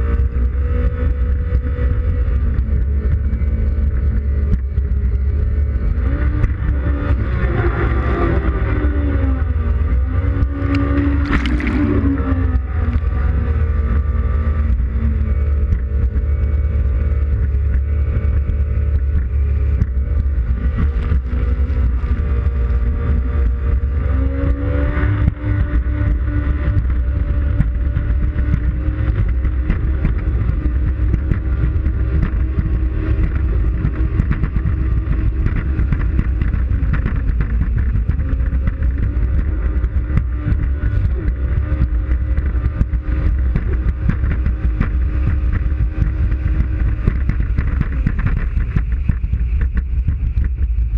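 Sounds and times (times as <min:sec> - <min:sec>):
jet ski engine running hard: 0:00.0 - 0:50.9.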